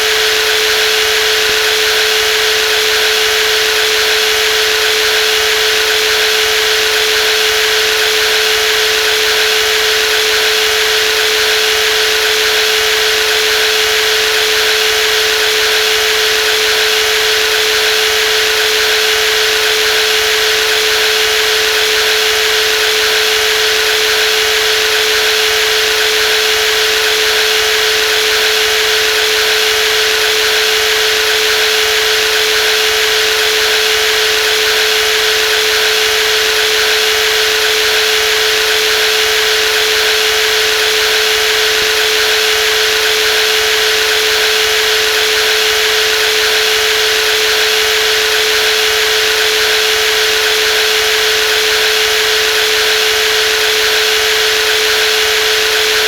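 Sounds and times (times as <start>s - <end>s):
jigsaw running: 0.0s - 56.0s.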